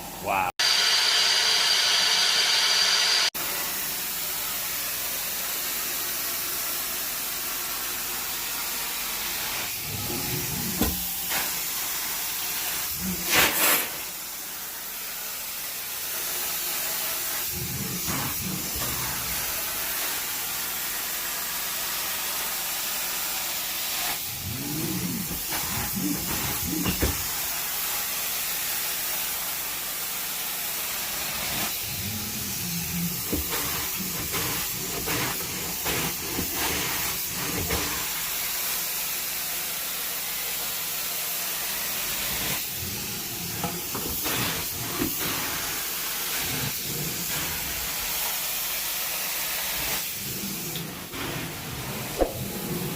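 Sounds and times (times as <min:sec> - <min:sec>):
carpet cleaning machine hissing: 0:00.0 - 0:52.9.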